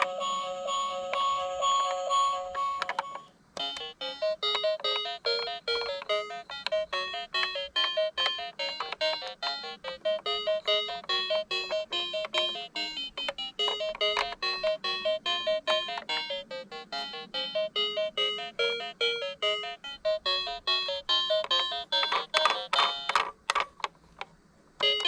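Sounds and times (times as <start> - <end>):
upbeat keyboard melody: 0.0 - 23.2.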